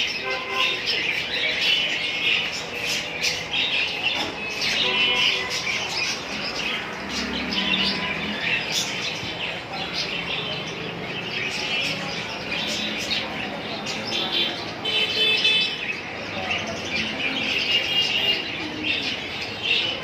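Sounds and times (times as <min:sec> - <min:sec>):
parrots chattering and chirping: 0:00.0 - 0:20.0.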